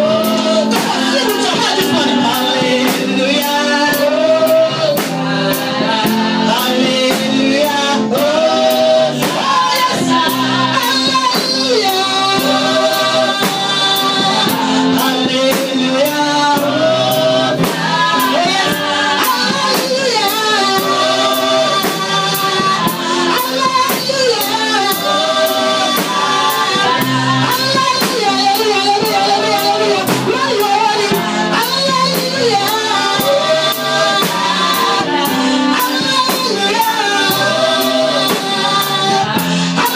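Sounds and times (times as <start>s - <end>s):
gospel singing voices: 0.0s - 39.9s
steady drum beat: 0.0s - 39.9s.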